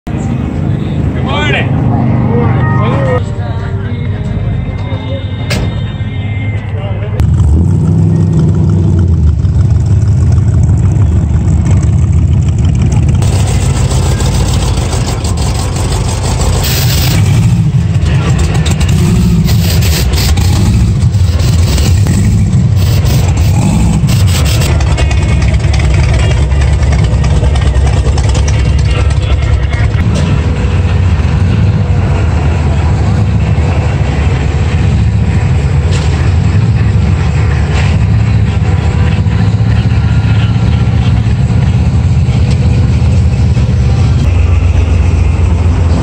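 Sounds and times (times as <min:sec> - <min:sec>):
car engine revving: 0:07.2 - 0:46.0.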